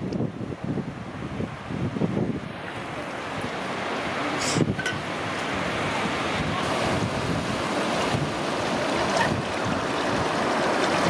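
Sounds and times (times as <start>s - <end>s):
rush of sea water: 0.0s - 11.0s
wind buffeting microphone: 0.0s - 11.0s.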